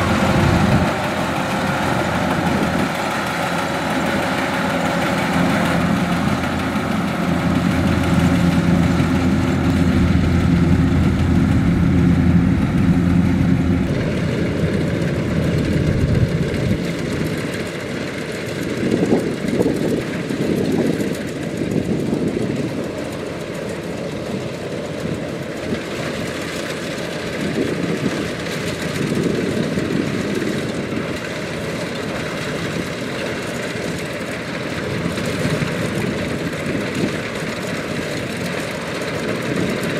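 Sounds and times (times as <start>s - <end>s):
combine harvester engine hum: 0.0s - 39.9s
rough uneven machine rumble: 0.0s - 39.9s.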